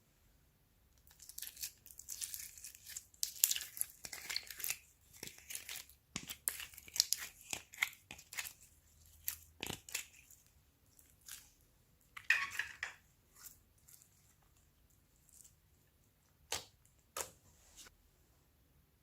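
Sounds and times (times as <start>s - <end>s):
slime squishing with sticky crackles: 1.0s - 12.2s, 13.0s - 17.4s.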